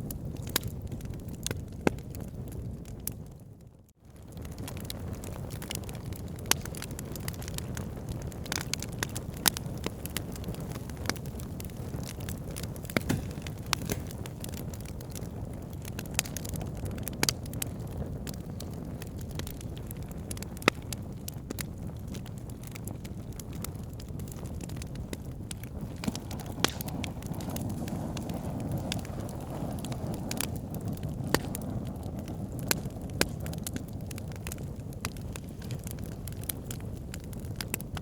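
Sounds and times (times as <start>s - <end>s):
fire crackling in a fireplace: 0.0s - 38.0s.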